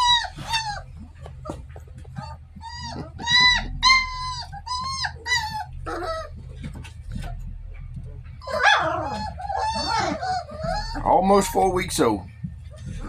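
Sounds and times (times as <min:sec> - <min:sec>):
puppies whining: 0:00.0 - 0:13.0
steady low hum: 0:00.0 - 0:13.0.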